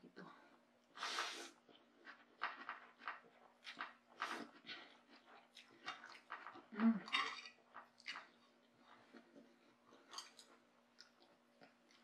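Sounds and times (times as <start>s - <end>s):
chewing noodles: 1.5s - 12.0s.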